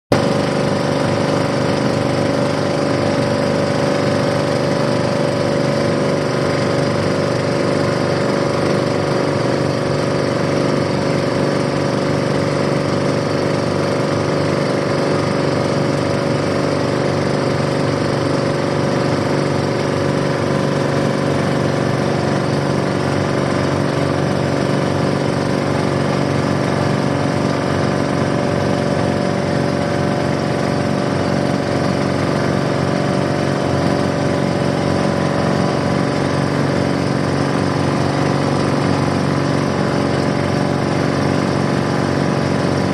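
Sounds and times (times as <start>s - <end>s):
boat engine chugging: 0.1s - 42.9s.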